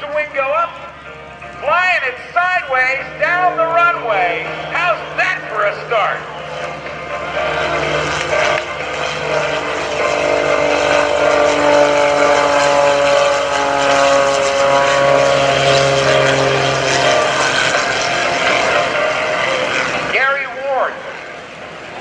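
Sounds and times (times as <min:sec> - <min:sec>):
airplane engine at high power: 0:00.0 - 0:22.0.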